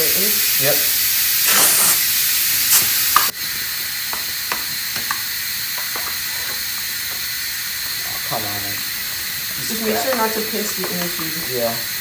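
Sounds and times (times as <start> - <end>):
air hissing out of inner tube: 0.0 - 12.0.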